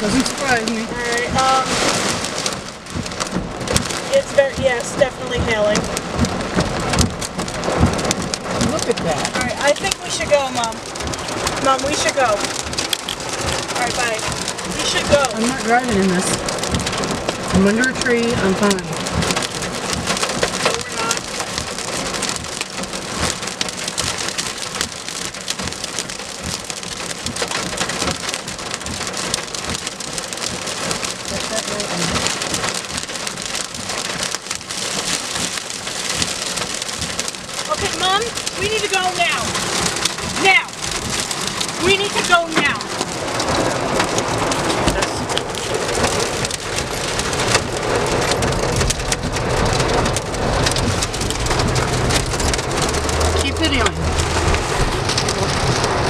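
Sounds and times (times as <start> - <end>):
hail pelting car roof: 0.0 - 56.0
rain downpour: 0.0 - 56.0.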